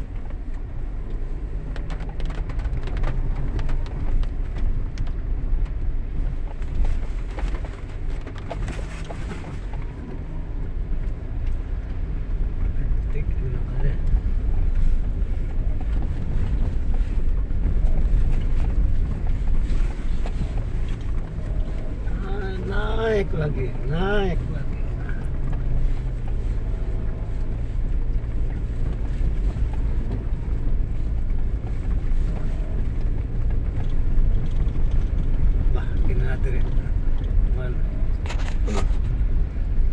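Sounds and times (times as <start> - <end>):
car engine pulling uphill: 0.0 - 39.9
road rumble: 0.0 - 39.9.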